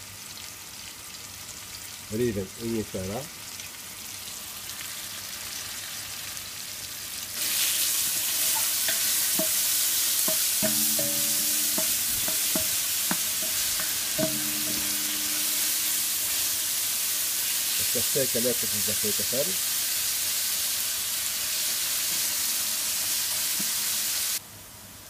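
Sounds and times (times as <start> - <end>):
food sizzling in hot oil: 0.0 - 24.8.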